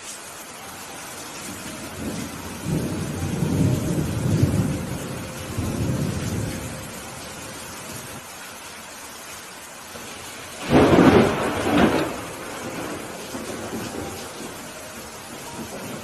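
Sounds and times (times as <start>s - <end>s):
steady rain falling: 0.0s - 16.0s
thunder rumbling: 0.9s - 8.3s, 9.9s - 16.0s.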